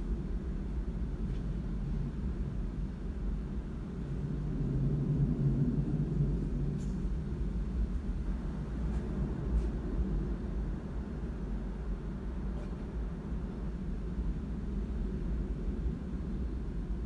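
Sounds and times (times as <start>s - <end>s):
low hum: 0.0s - 17.0s
vehicle rumble: 0.0s - 17.0s.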